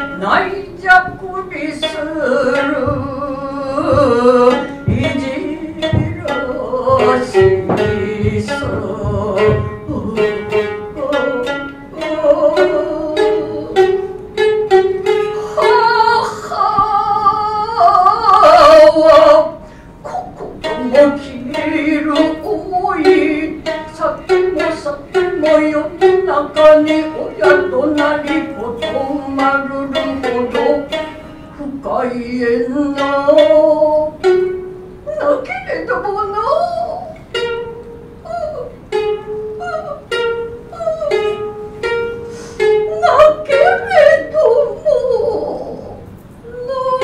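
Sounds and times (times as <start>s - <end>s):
shamisen plucked strokes: 0.0s - 47.0s.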